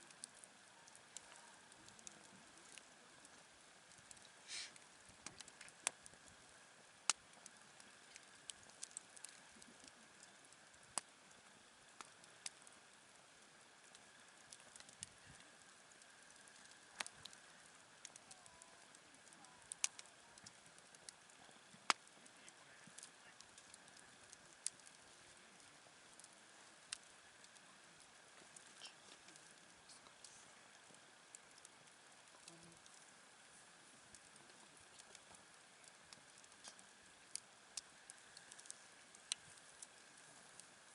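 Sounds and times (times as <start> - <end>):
soft steady hiss: 0.0 - 40.9
wood fire crackling: 0.0 - 40.9.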